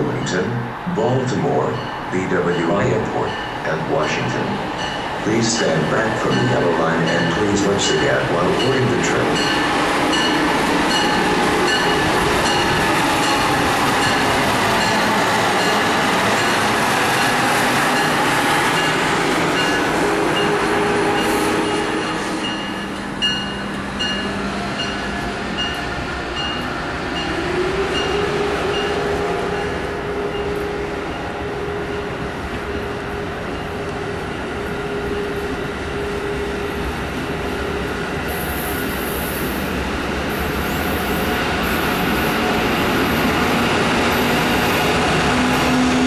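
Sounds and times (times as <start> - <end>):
train electric whine: 0.0 - 46.0
train wheels rumbling on rail: 0.0 - 46.0.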